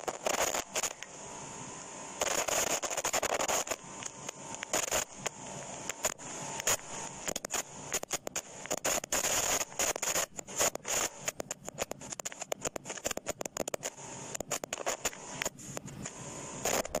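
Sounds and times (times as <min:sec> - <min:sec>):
scratching and rubbing: 0:00.0 - 0:01.0, 0:02.2 - 0:05.3, 0:05.9 - 0:17.0
crackly clicks: 0:00.0 - 0:01.2, 0:02.2 - 0:17.0
steady high hiss: 0:00.0 - 0:17.0.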